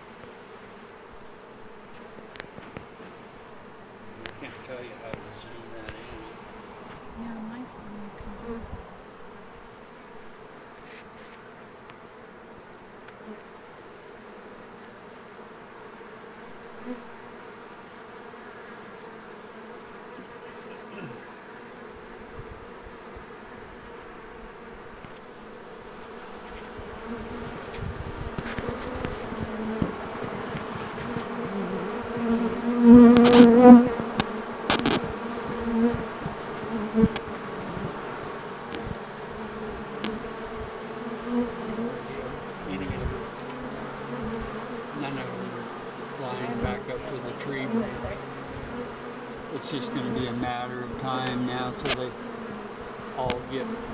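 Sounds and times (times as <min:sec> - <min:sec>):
bee swarm buzzing: 0:00.0 - 0:53.9
loud close bee buzzes: 0:00.0 - 0:53.9.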